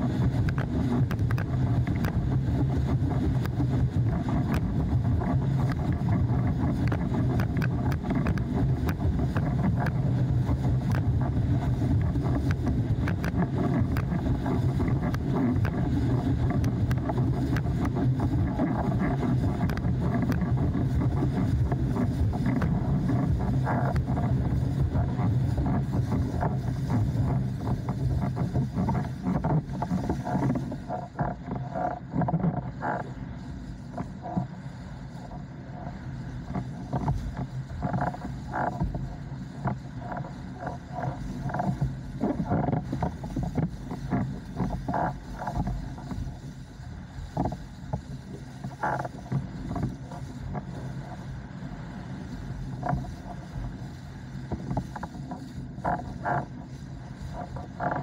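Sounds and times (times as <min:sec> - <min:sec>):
wind and water rushing: 0:00.0 - 0:58.0.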